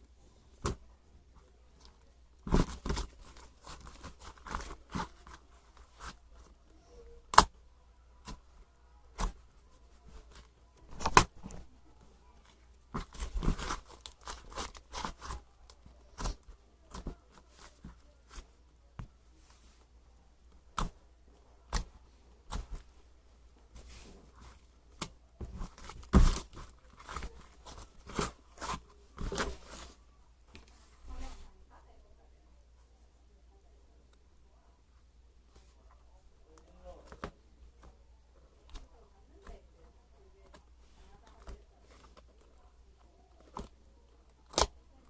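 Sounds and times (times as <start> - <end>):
rustling and crinkling: 0.0 - 7.5, 8.2 - 31.6, 36.6 - 45.0.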